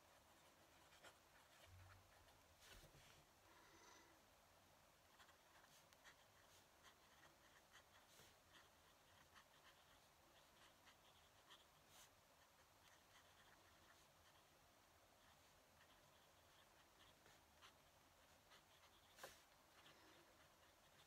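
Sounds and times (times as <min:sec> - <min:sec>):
pen nib scratching on paper: 0:00.0 - 0:02.9, 0:05.1 - 0:14.5, 0:15.2 - 0:21.0.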